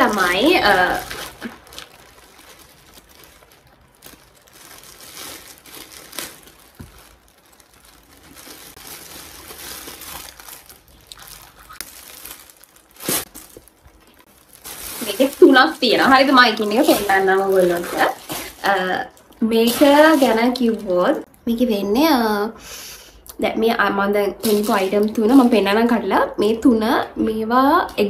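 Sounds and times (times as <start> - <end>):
plastic packaging crinkling: 0.0 - 21.4, 24.3 - 25.6.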